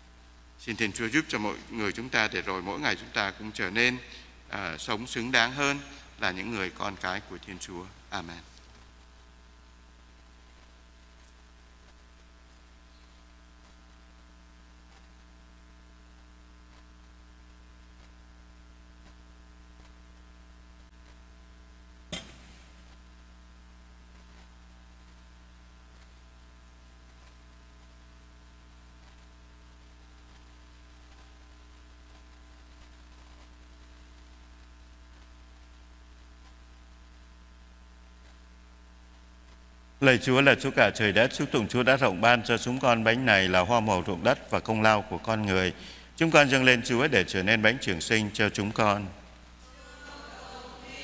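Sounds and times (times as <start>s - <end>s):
electrical mains hum: 0.0s - 51.0s.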